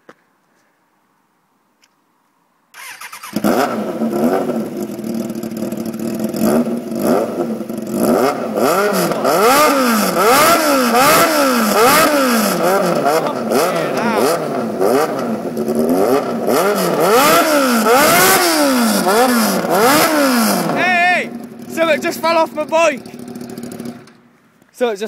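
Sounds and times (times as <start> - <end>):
motorcycle engine revving: 2.8 - 24.6.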